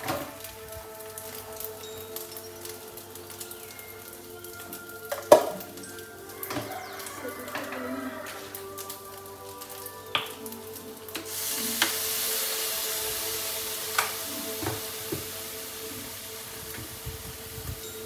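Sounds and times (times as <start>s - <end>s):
rice sizzling in a wok: 0.0s - 18.0s.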